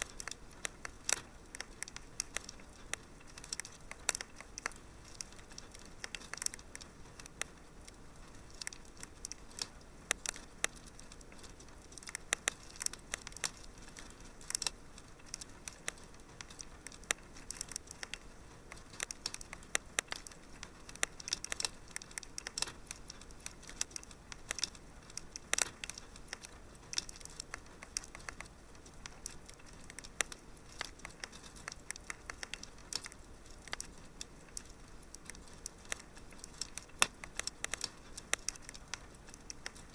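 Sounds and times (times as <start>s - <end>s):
soft low hiss: 0.0s - 39.9s
wood fire crackling: 0.0s - 39.9s.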